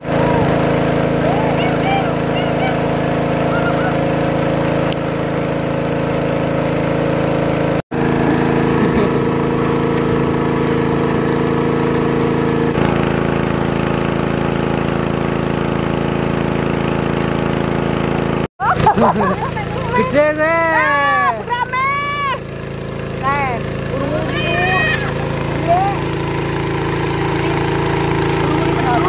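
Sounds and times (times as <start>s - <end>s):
small petrol pump engine running: 0.0s - 29.0s.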